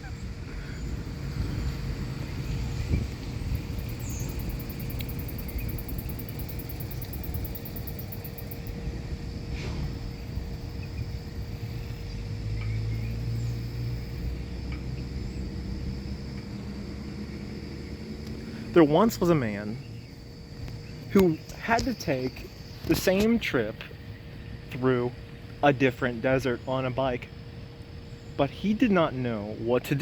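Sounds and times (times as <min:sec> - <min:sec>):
insect rapid high pulsing: 0:00.0 - 0:30.0
steady hum: 0:00.0 - 0:30.0
steady low rumble: 0:00.0 - 0:30.0.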